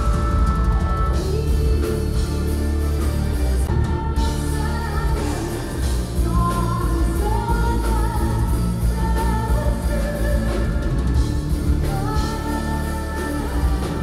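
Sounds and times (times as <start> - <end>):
distorted guitars: 0.0 - 14.0
drums: 0.0 - 14.0
keyboards: 0.0 - 14.0.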